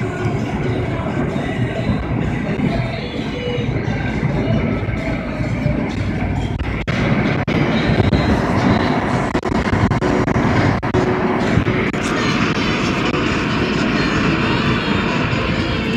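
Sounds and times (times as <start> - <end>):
road noise inside car: 0.0 - 15.9
wind rush: 0.0 - 15.9.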